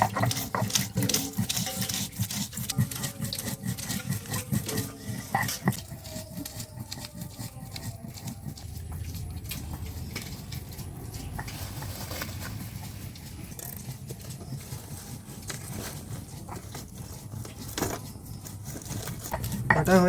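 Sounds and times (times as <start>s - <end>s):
scraping on grinding stone: 0.0s - 20.0s.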